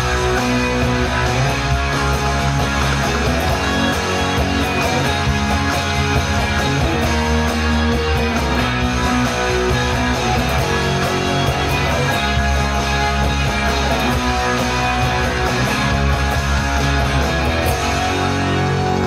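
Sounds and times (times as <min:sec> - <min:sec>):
bass guitar: 0:00.0 - 0:19.0
drums: 0:00.0 - 0:19.0
electric guitar strumming: 0:00.0 - 0:19.0.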